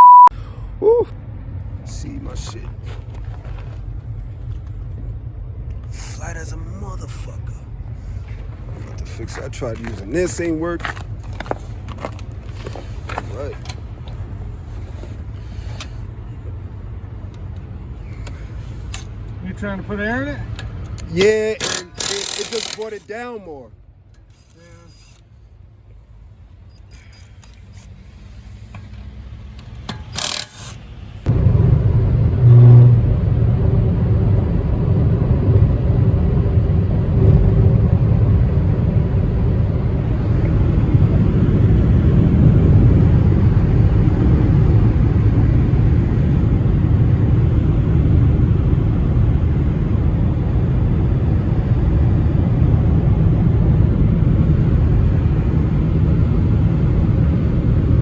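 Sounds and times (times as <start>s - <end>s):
loud steady low rumble: 0.0s - 24.2s, 31.1s - 58.0s.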